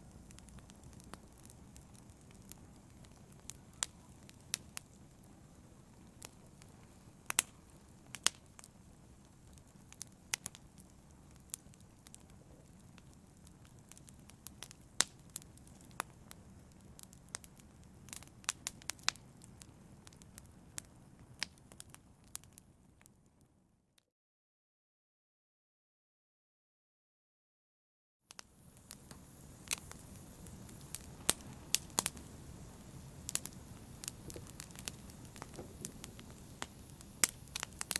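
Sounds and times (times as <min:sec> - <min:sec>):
wood fire crackling: 0:00.0 - 0:23.2, 0:28.3 - 0:37.9.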